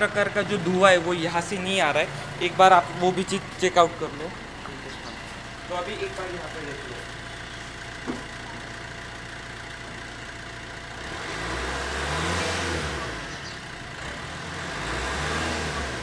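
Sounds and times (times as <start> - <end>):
diesel engine idling and revving: 0.0 - 16.0.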